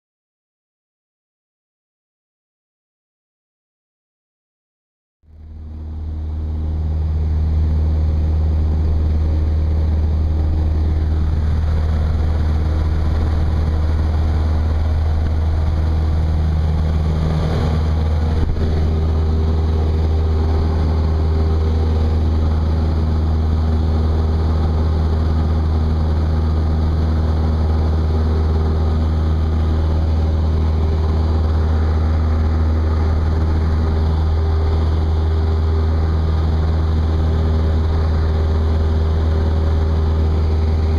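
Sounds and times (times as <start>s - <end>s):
light aircraft engine droning: 5.3s - 40.9s.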